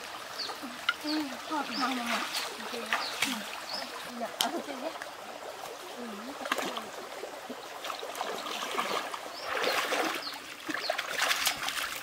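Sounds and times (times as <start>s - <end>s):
feet wading and splashing in water: 0.0s - 12.0s
light water trickle: 0.0s - 12.0s.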